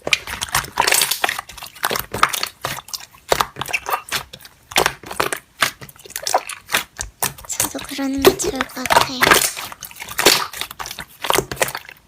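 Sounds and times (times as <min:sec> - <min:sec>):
slime crackling and crunching: 0:00.0 - 0:12.0.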